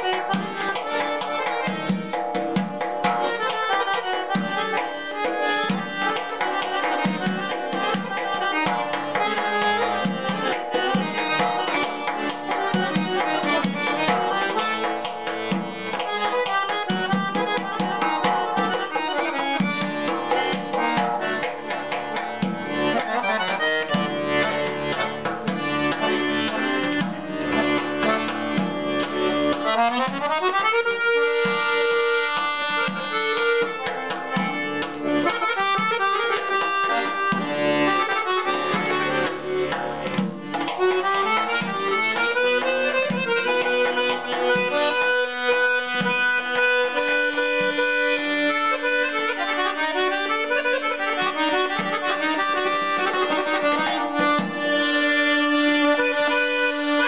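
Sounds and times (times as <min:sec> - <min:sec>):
accordion playing folk melody: 0:00.0 - 0:57.0.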